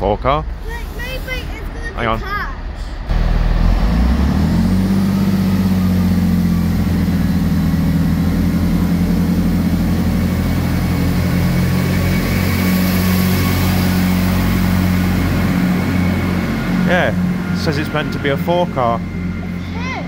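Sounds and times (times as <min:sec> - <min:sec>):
train diesel engines droning: 0:00.0 - 0:20.0.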